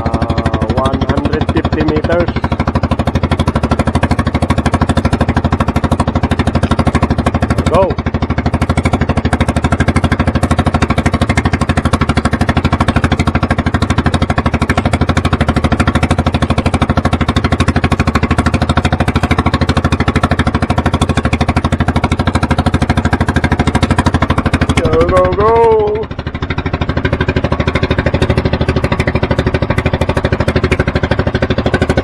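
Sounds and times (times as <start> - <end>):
boat engine pulsing: 0.0 - 32.0.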